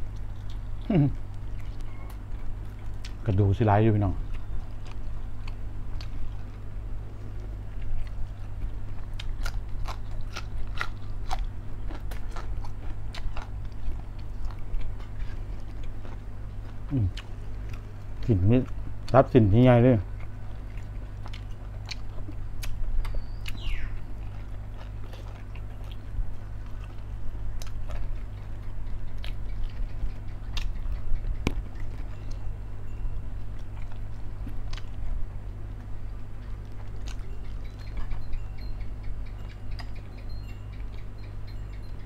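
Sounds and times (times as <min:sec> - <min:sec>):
man chewing and smacking: 0:00.0 - 0:19.4, 0:20.0 - 0:42.0
low hum: 0:00.0 - 0:42.0.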